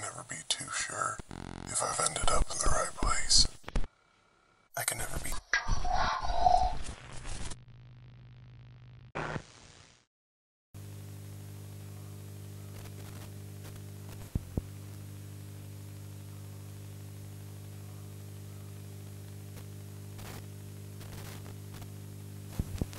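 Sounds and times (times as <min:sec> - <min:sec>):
electrical mains hum: 0:00.0 - 0:09.1, 0:10.8 - 0:22.9
static hiss: 0:00.2 - 0:03.9, 0:04.8 - 0:10.1, 0:10.8 - 0:22.9.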